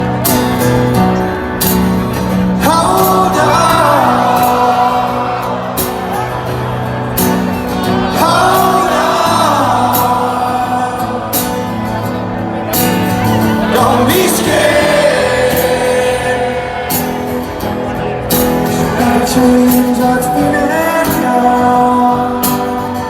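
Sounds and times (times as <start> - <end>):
crowd cheering: 0.0 - 23.0
live band music: 0.0 - 23.0
man singing: 2.4 - 7.0, 7.7 - 12.2, 13.2 - 23.0.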